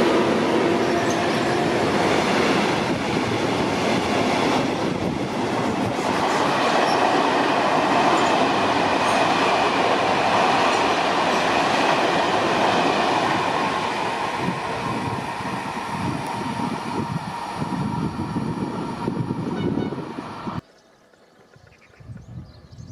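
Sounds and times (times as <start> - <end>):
train passing: 0.0 - 22.1.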